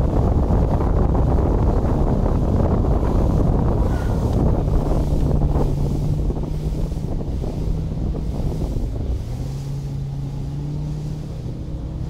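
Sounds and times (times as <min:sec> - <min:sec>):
speedboat engine running: 0:00.0 - 0:12.0
water washing against hull: 0:00.0 - 0:12.0
wind on microphone: 0:00.0 - 0:12.0.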